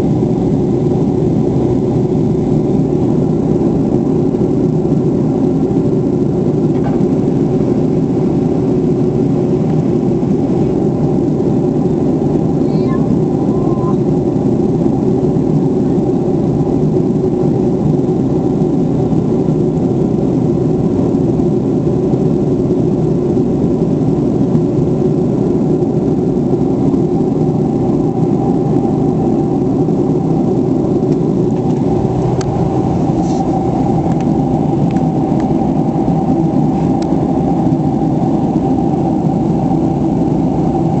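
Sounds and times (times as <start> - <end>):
airliner cabin engine drone: 0.0 - 41.0.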